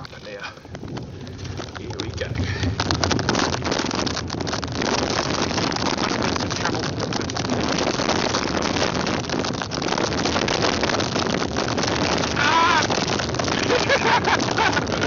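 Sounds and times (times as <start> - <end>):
wind buffeting a microphone: 0.0 - 15.0.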